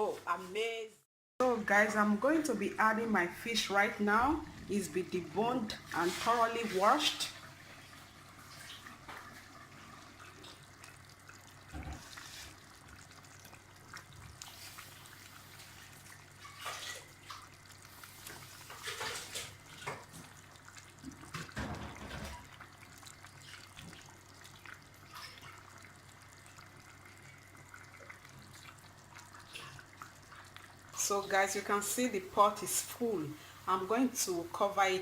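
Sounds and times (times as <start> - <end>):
stew bubbling in a pot: 1.4 - 35.0.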